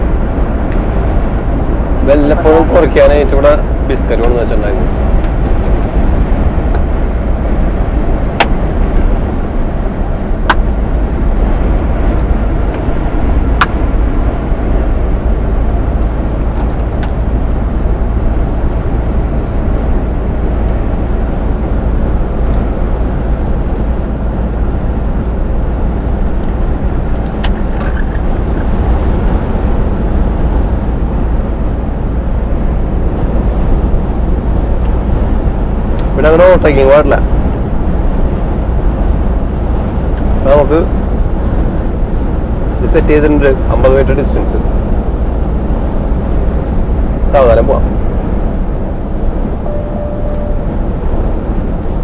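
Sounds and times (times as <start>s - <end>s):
truck engine and road noise: 0.0s - 52.0s.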